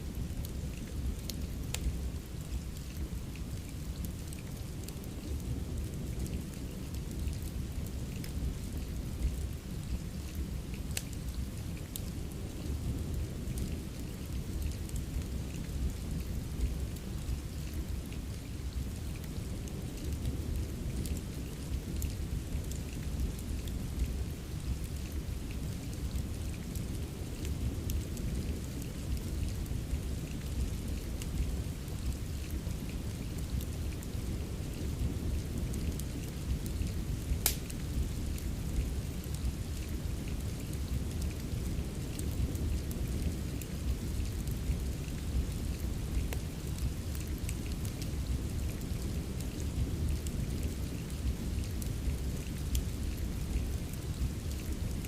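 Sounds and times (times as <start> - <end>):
fireplace crackling and popping: 0.0 - 55.0
steady rain: 0.0 - 55.0.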